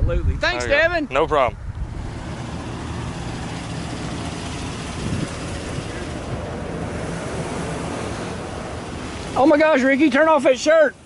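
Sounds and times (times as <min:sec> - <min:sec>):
truck engine idling: 0:00.7 - 0:11.0.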